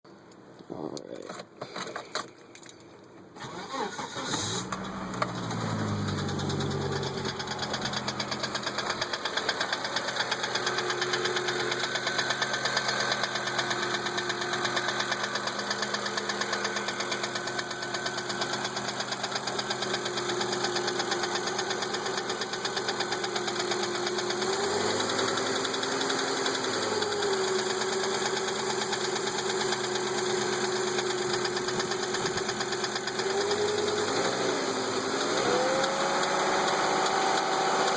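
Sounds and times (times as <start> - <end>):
car engine idling: 3.5 - 37.9
rapid engine knocking: 6.0 - 37.9.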